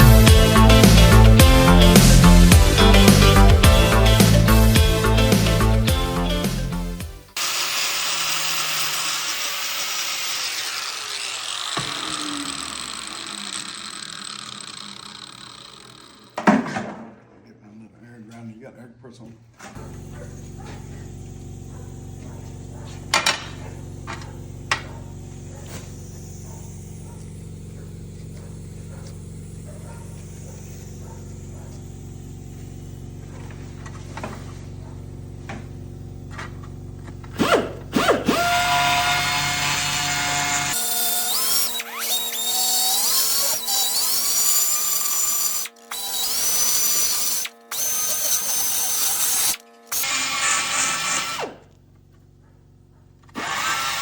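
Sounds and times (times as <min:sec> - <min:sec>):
air compressor humming: 0:00.0 - 0:16.6, 0:19.7 - 0:54.0
pneumatic grinder whining: 0:00.0 - 0:17.0, 0:19.7 - 0:54.0.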